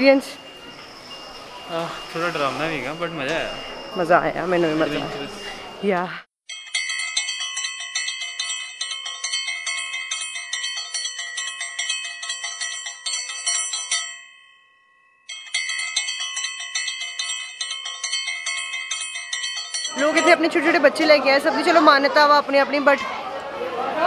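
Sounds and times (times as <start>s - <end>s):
temple bells ringing: 0.0s - 5.9s, 6.5s - 22.5s.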